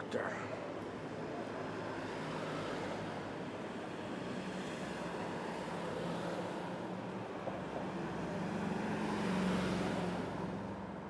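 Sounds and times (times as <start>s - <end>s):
street traffic engine hum: 0.0s - 11.0s.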